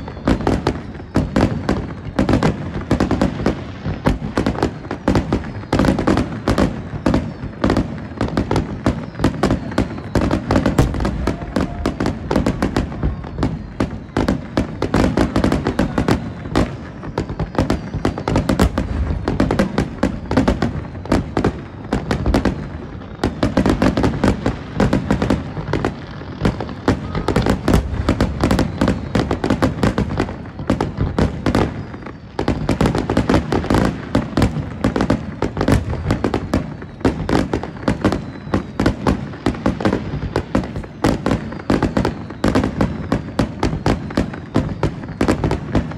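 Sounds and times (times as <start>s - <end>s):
fireworks bursting and crackling: 0.0s - 45.9s.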